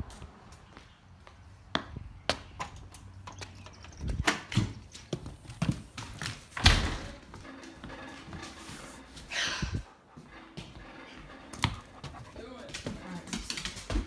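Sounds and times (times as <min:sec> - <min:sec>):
footsteps: 0:00.0 - 0:02.5, 0:04.1 - 0:14.0.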